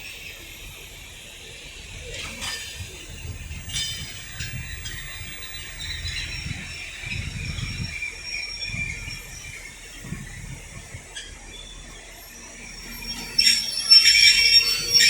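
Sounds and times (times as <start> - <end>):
high wheel squeal: 0.0 - 15.0
train low rumble: 0.0 - 15.0.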